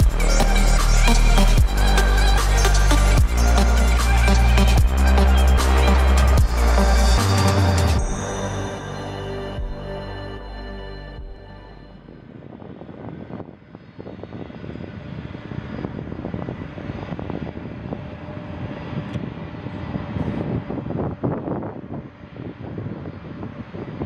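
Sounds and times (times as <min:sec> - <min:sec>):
faint jet engine whine: 0:00.0 - 0:24.0
jet engines rumbling: 0:00.0 - 0:24.0.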